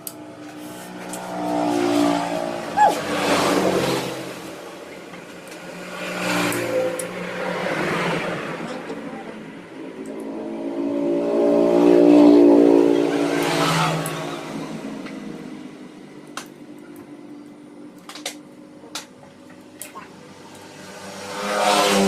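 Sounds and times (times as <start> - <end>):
motorcycle engine: 0.0 - 19.5, 20.1 - 22.0.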